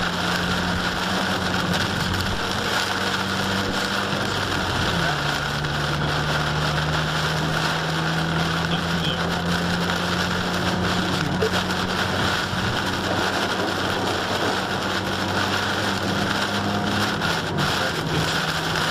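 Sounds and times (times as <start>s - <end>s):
engine and tyre hum: 0.0s - 18.9s
rain beating on car: 0.0s - 18.9s.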